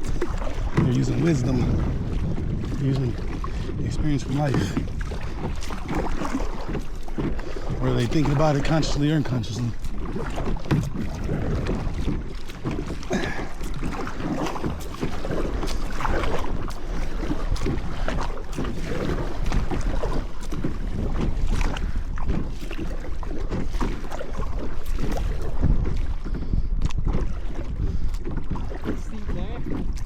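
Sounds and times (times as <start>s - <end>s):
paddle strokes splashing water: 0.0s - 30.0s
wind rumbling on microphone: 0.0s - 30.0s.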